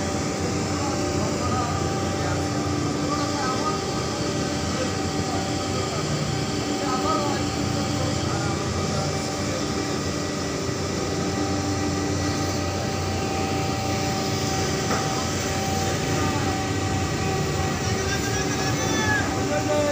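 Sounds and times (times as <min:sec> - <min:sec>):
cargo crane machinery droning: 0:00.0 - 0:19.9
constant hum tones: 0:00.0 - 0:19.9.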